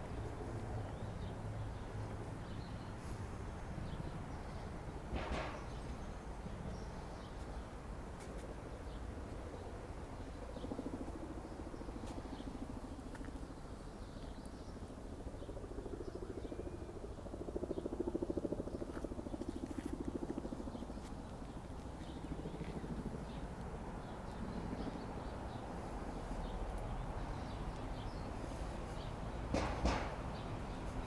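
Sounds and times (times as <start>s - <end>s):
low traffic rumble: 0.0s - 31.0s.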